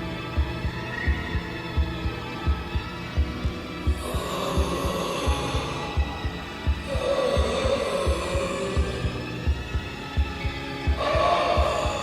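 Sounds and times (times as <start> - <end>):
eerie hum: 0.0 - 12.0
heartbeat thumps: 0.0 - 12.0.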